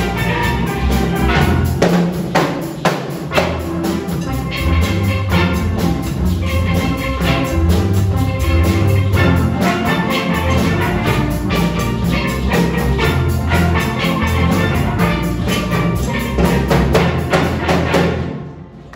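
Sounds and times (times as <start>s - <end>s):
drums: 0.0s - 18.9s
steelpans playing rhythm: 0.0s - 18.9s
low bass notes: 3.3s - 18.9s.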